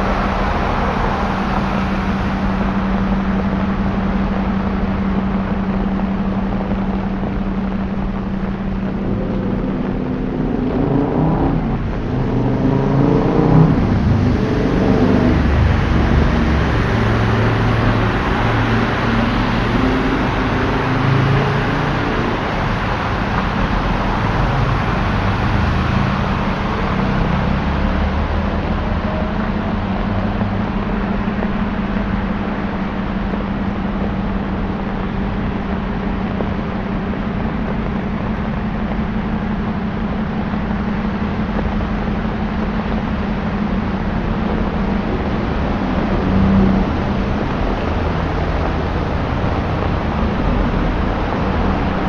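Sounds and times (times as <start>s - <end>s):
low engine hum: 0.0s - 52.0s
rain and tyres hissing on water: 0.0s - 52.0s.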